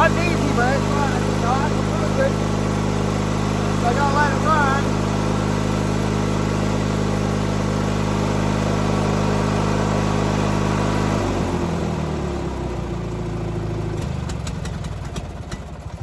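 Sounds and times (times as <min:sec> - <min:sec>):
lawnmower engine running unevenly: 0:00.0 - 0:16.0.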